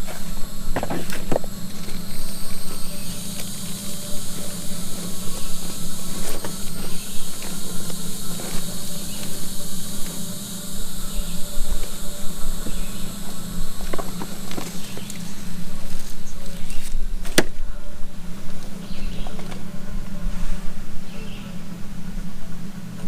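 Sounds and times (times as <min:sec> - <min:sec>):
high hiss: 0:00.0 - 0:23.0
steady low hum: 0:00.0 - 0:23.0.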